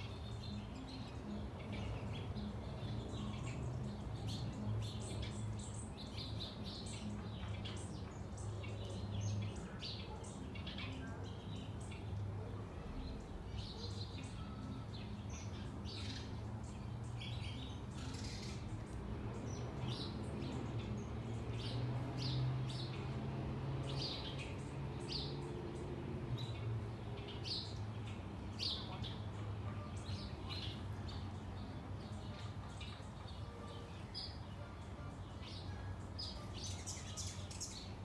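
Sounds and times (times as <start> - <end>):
songbirds chirping: 0.0 - 38.0.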